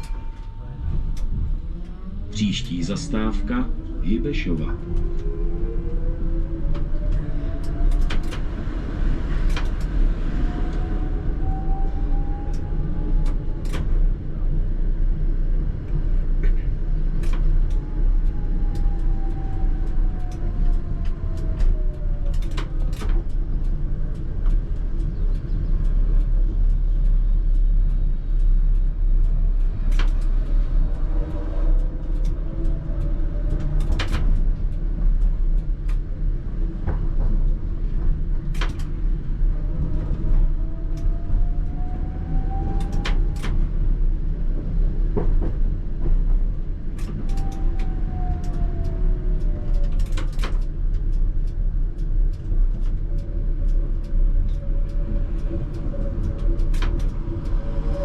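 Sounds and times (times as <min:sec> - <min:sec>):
tram low rumble: 0:00.0 - 0:58.0
wheels clicking on rails: 0:00.0 - 0:58.0.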